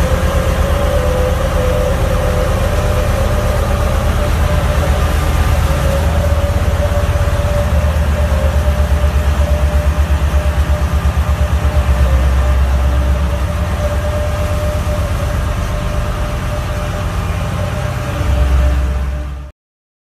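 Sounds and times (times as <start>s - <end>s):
dump truck diesel engine rumble: 0.0s - 19.5s
high whine: 0.0s - 19.5s.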